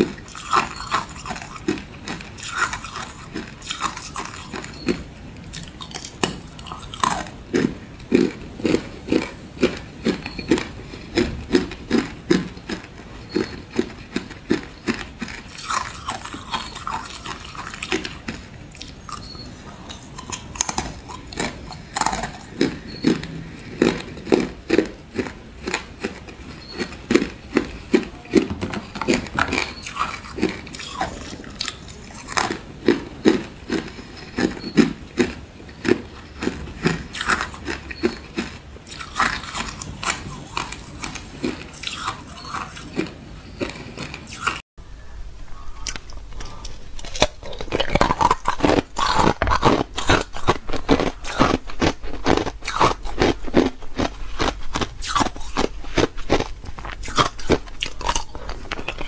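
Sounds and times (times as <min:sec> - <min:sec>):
ice being chewed crunching: 0:00.0 - 0:44.6, 0:45.7 - 0:59.0.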